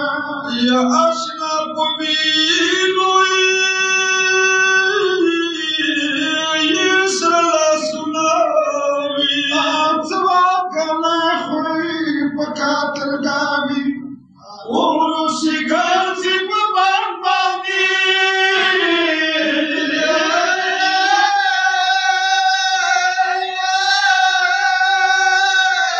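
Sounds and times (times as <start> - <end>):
man singing a lament: 0.0 - 25.9.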